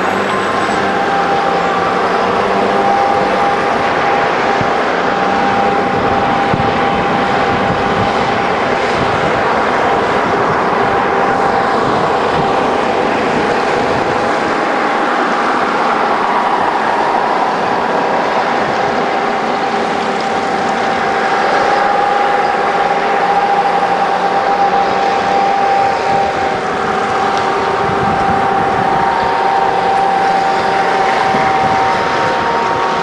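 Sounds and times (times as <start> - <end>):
steady high whine: 0.0 - 33.0
vehicle engine and tyre noise: 0.0 - 33.0.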